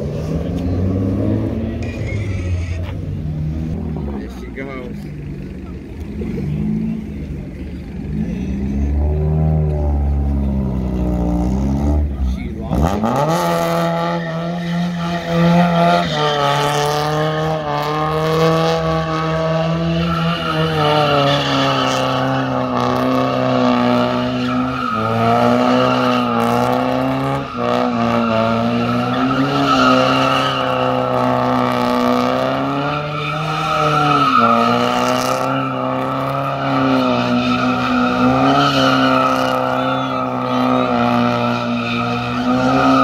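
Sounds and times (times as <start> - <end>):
car engine revving: 0.0 - 43.0
tires screeching on asphalt: 0.0 - 43.0.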